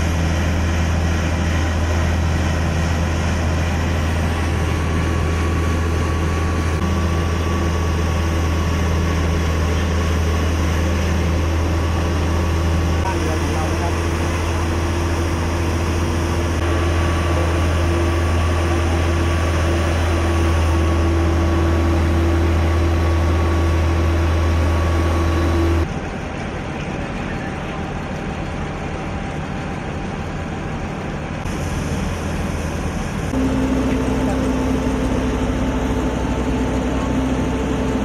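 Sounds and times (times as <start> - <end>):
engine drone: 0.0 - 38.0
quieter engine-like noise: 0.0 - 38.0.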